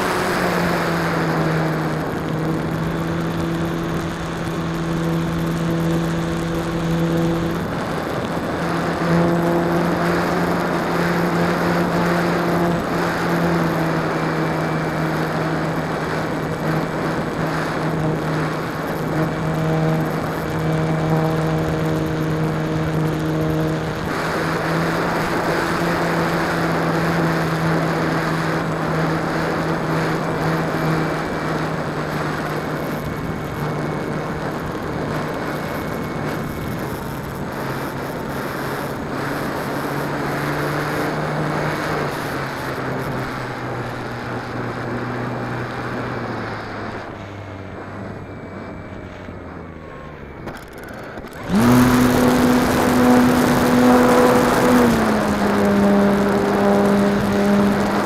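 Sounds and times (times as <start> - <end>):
electric motor propeller buzzing whine: 0.0 - 58.0.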